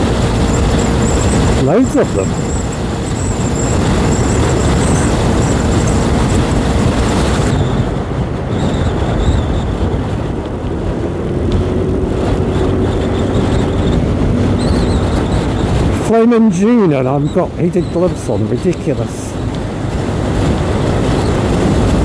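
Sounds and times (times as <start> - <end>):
motorcycle engine hum: 0.0 - 22.0
wind and road noise: 0.0 - 22.0.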